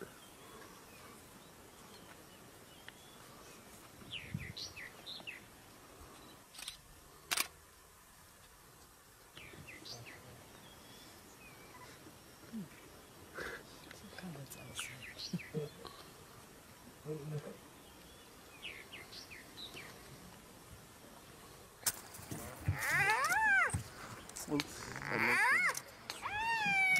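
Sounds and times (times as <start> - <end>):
small birds chirping: 0.0 - 6.8, 9.3 - 20.4, 22.2 - 26.9
outdoor background hiss: 0.0 - 26.9.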